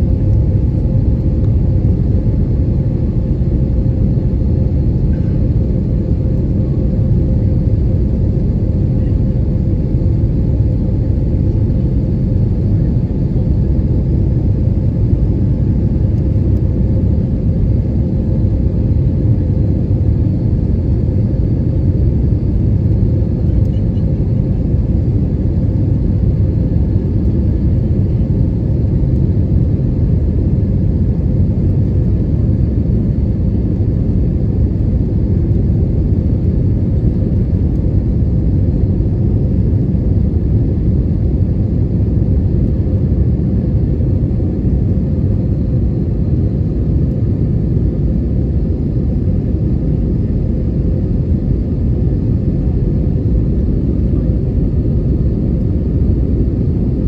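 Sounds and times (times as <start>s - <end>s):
airliner cabin rumble: 0.0s - 57.0s
faint steady hum: 0.0s - 57.0s.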